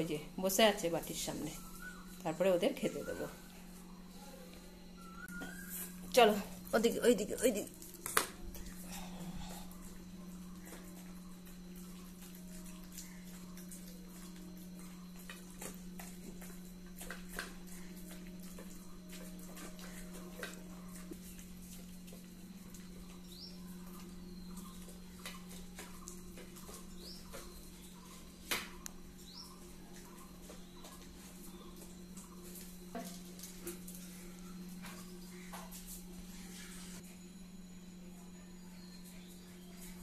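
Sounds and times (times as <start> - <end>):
steady low hum: 0.0 - 40.0
dogs chewing and licking: 0.7 - 37.2, 38.0 - 40.0.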